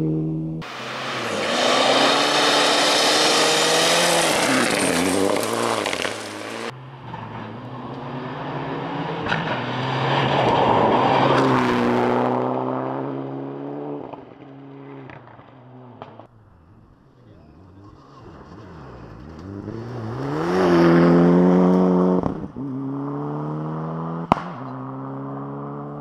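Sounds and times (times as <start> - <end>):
rally car engine revving past: 0.0 - 16.2, 17.7 - 26.0.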